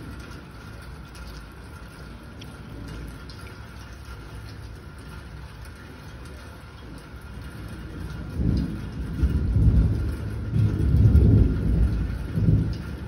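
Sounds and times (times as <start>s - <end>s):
faint drip ticks: 0.0s - 13.0s
steady rain falling: 0.0s - 13.0s.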